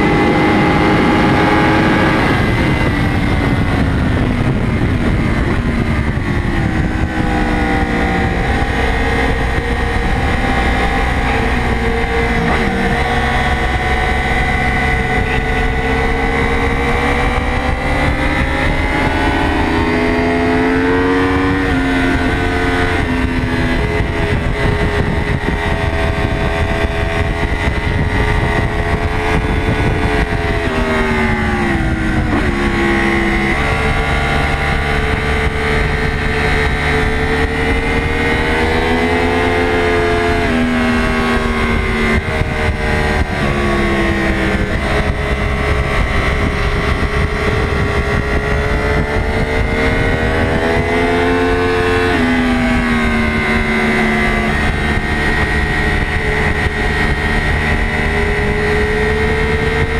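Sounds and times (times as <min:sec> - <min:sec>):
motorcycle engine at race pace: 0:00.0 - 0:59.9.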